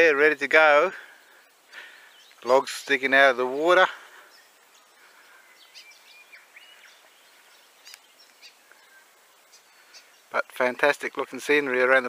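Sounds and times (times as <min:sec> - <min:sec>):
outdoor background hiss: 0:00.0 - 0:12.0
faint bird chirps: 0:00.9 - 0:10.8.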